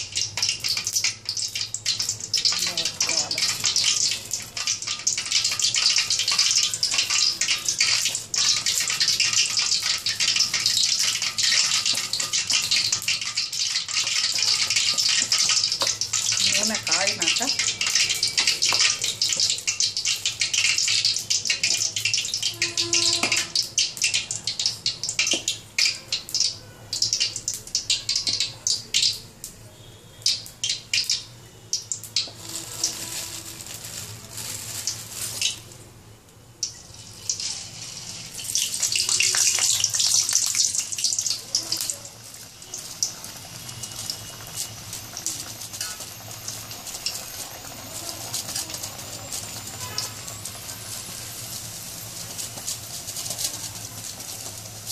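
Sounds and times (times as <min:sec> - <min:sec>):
hot oil sizzling and crackling: 0:00.0 - 0:54.9.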